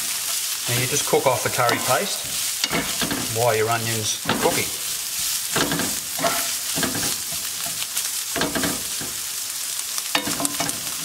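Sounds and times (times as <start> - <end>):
onions sizzling in frying pan: 0.0 - 11.0.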